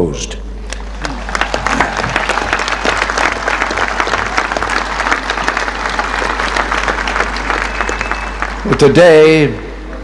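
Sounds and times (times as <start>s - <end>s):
large crowd applauding: 0.7s - 9.6s.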